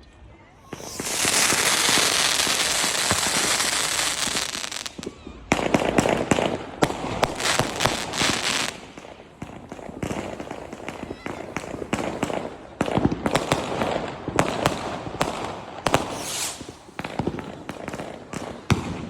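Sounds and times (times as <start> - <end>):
fireworks crackling: 0.6 - 19.0
fireworks hissing rush: 0.6 - 19.0
fireworks pops: 0.7 - 19.0.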